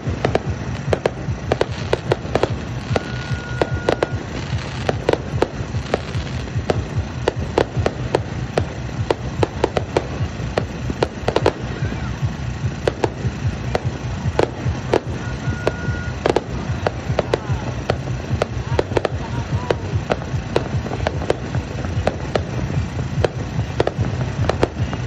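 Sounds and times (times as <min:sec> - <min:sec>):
fireworks bangs and crackles: 0:00.0 - 0:25.0
steady low hum: 0:00.0 - 0:25.0.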